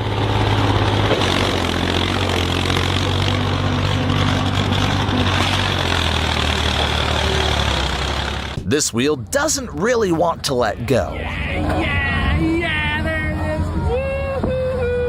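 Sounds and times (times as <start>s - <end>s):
tractor engine rumbling: 0.0s - 15.0s.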